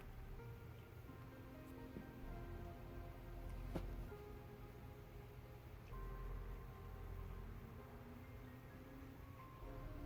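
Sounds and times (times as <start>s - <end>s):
soft background music: 0.0s - 10.0s.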